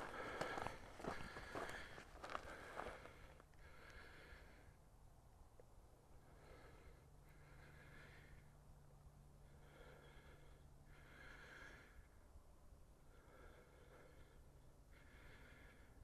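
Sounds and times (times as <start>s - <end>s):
man breathing heavily: 0.0s - 4.9s, 6.0s - 16.0s.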